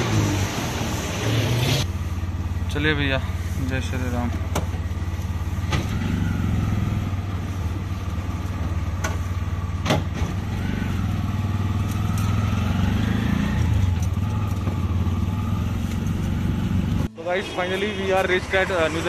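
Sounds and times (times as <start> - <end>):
auto-rickshaw engine running: 0.0 - 19.0.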